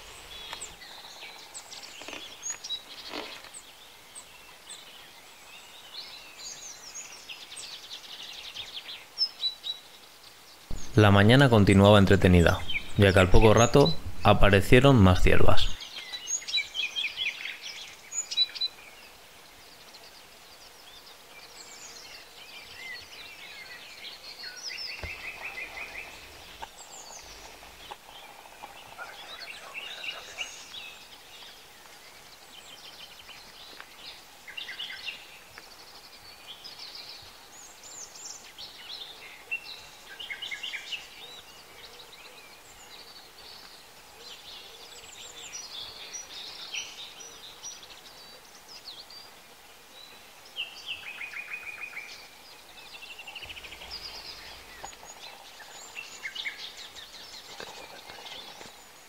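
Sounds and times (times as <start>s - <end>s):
faint outdoor background hiss: 0.0s - 59.0s
songbirds singing: 0.0s - 59.0s.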